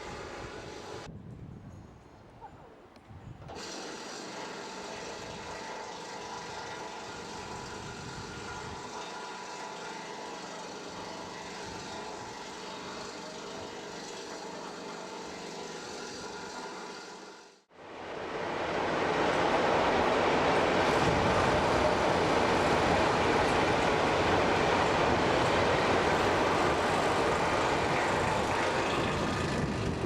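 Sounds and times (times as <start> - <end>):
locomotive engine running: 3.5 - 17.3, 17.9 - 30.0.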